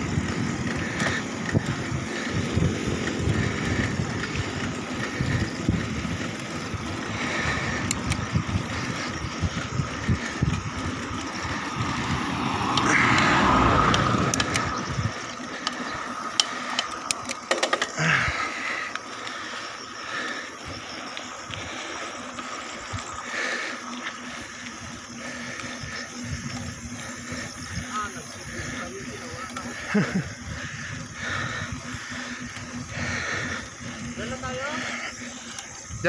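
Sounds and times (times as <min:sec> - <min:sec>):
wind buffeting microphone: 0:00.0 - 0:17.5, 0:19.7 - 0:36.0
bicycle rattling: 0:00.0 - 0:36.0.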